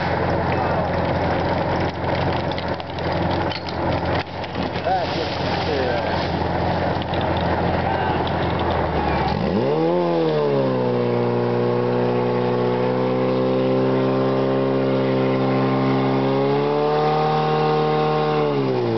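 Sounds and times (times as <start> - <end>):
pump engine revving: 0.0 - 18.9.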